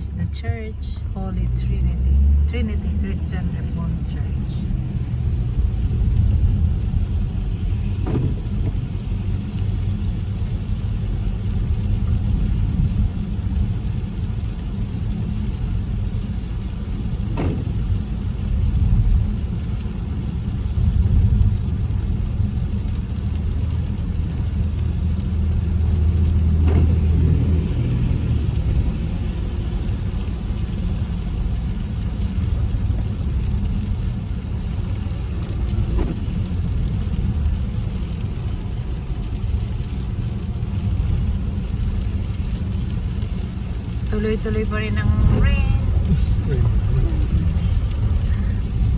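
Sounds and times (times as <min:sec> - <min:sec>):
car engine and tyres rumbling: 0:00.0 - 0:48.9.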